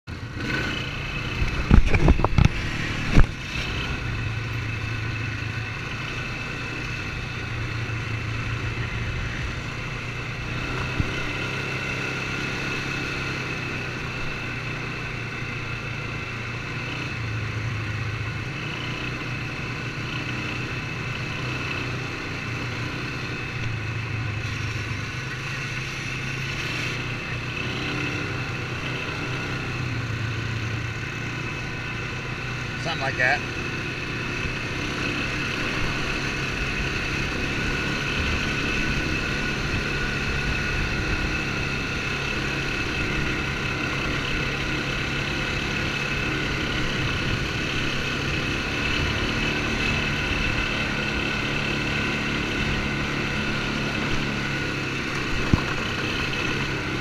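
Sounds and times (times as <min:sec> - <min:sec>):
atv engine running: 0:00.1 - 0:57.0.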